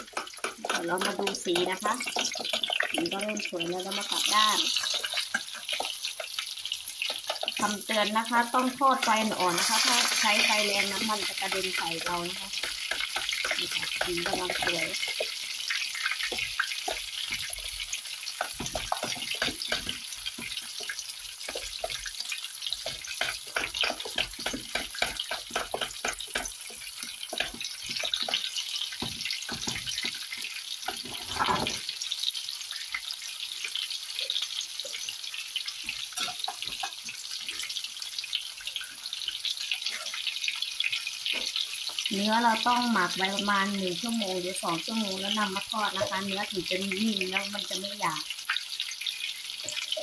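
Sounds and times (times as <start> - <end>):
meat sizzling in oil: 0.0 - 50.0.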